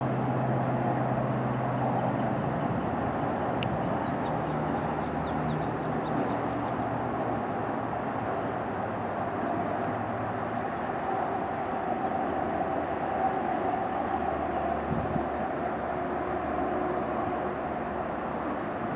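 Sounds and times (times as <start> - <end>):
jet engine noise: 0.0 - 18.9.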